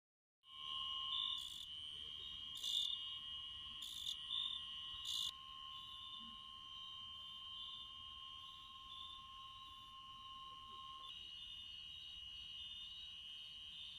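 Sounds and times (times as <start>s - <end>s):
crickets trilling: 0.5s - 13.9s.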